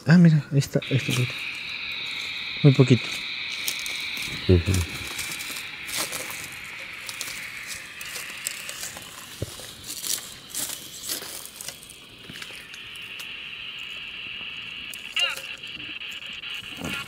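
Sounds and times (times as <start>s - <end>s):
crickets chirring: 0.4s - 17.0s.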